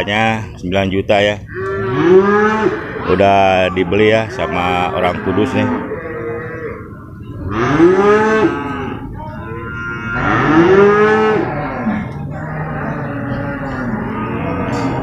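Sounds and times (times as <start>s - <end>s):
water buffalo mooing: 1.4s - 15.0s.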